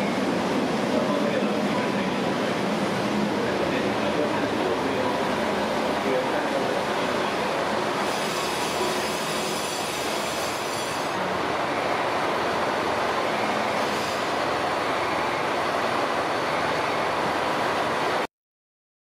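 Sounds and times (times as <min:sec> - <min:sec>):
train wheels running: 0:00.0 - 0:18.2.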